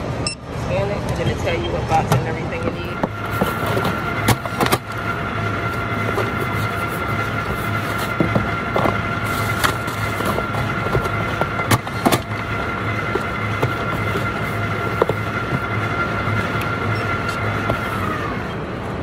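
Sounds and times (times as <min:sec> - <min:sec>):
conveyors and machinery droning: 0:00.0 - 0:19.0
high whine: 0:00.0 - 0:19.0
items packed into cardboard box: 0:02.9 - 0:18.5.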